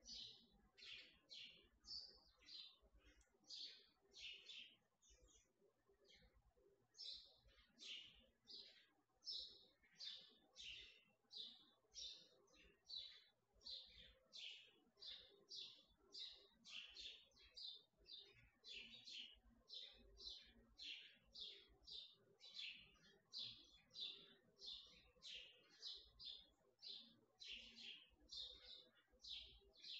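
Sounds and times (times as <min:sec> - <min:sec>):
faint bird chirping: 0:00.0 - 0:29.9.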